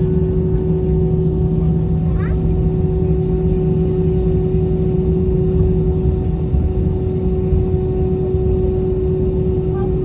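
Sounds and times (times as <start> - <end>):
cabin low rumble: 0.0 - 10.0.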